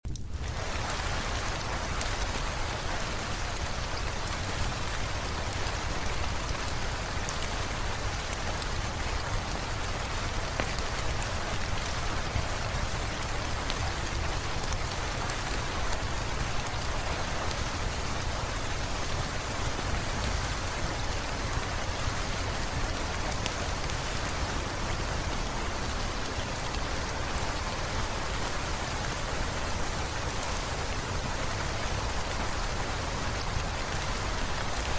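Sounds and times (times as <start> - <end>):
rain on hard surfaces: 0.0 - 34.9
raindrop ticks: 0.1 - 34.9.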